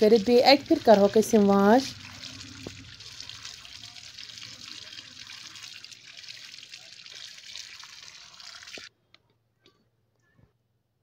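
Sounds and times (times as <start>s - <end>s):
running water splashing: 0.0s - 8.9s.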